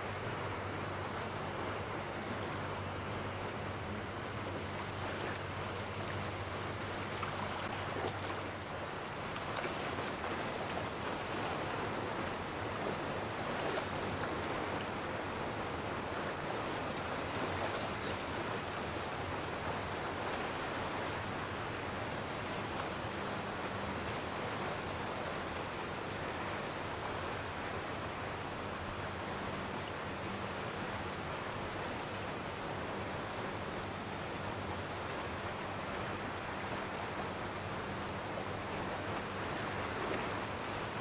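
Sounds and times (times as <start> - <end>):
small ocean waves washing over sand: 0.0 - 41.0.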